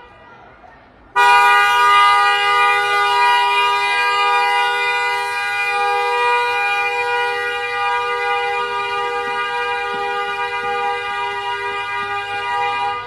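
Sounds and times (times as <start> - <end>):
air horn blast: 1.2 - 13.0.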